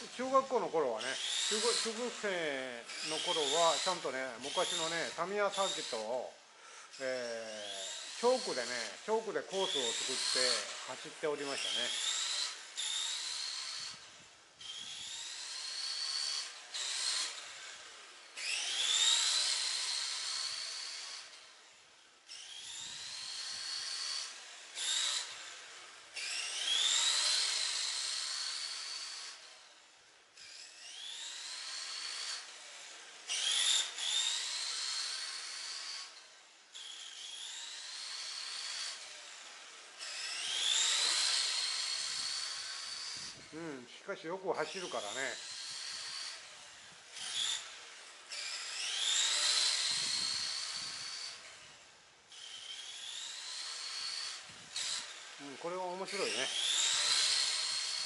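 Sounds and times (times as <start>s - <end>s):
electric toy car motor whine: 0.0s - 58.0s.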